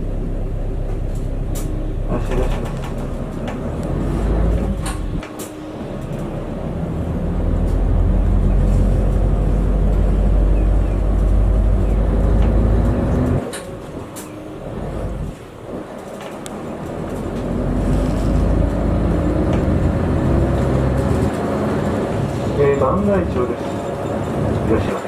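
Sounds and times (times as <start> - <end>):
bus engine pulling away: 0.0 - 25.0.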